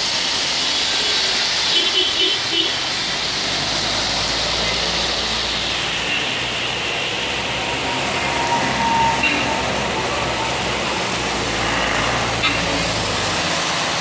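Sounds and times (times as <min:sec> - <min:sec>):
heavy rain falling: 0:00.0 - 0:14.0
tyres hissing on wet road: 0:00.0 - 0:14.0.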